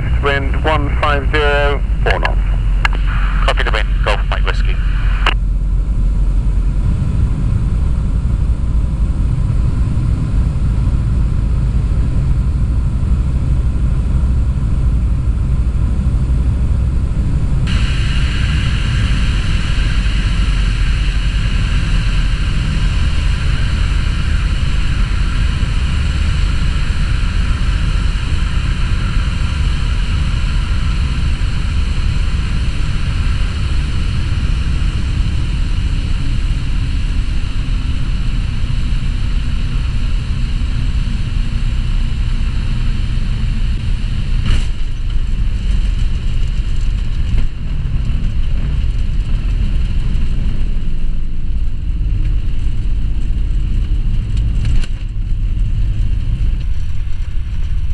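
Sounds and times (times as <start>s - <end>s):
aircraft engine drone: 0.0s - 57.9s.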